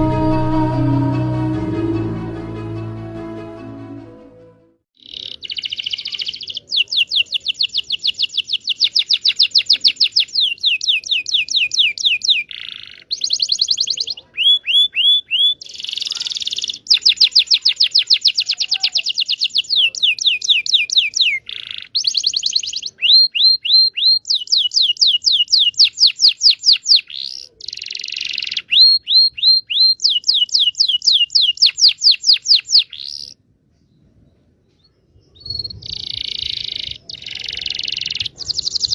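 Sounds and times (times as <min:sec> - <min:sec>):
canary singing fast trills: 0:05.0 - 0:33.4, 0:35.3 - 0:38.9.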